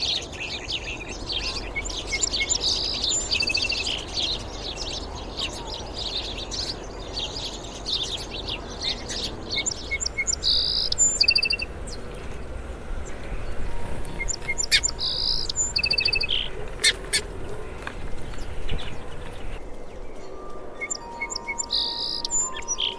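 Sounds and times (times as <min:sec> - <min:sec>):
sparrows chirping: 0:00.0 - 0:22.9.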